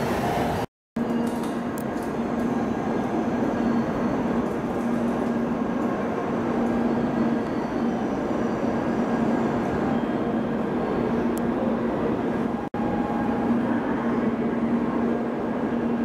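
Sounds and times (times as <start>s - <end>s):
station platform rumbling: 0.0s - 16.0s.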